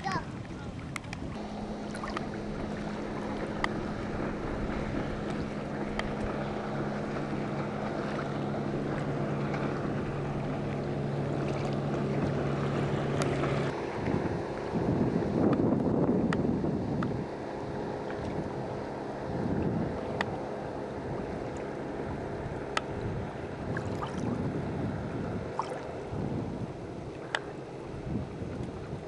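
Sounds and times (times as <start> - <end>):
steady low hum: 0.0 - 29.0
wind noise on microphone: 0.0 - 29.0.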